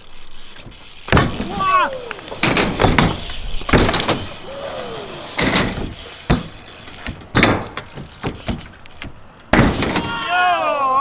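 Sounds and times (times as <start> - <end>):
bike hitting ramps: 0.0 - 11.0
bike tyres rolling on concrete: 0.0 - 11.0.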